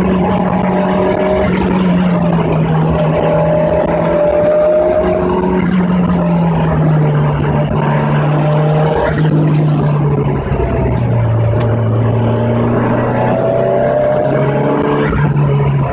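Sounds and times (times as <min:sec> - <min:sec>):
turbocharged car engine running hard: 0:00.0 - 0:15.9.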